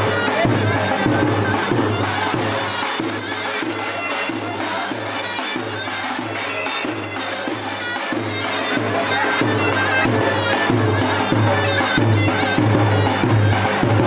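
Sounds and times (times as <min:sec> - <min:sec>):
shrill reedy pipe melody: 0:00.0 - 0:14.0.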